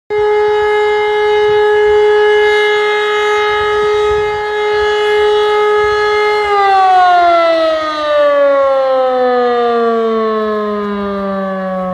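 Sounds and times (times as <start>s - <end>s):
electromechanical siren: 0.1s - 11.9s.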